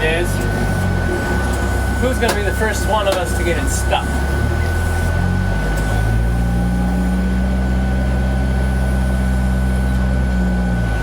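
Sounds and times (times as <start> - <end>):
backhoe diesel engine running: 0.0 - 11.0
steady high whine: 0.0 - 11.0.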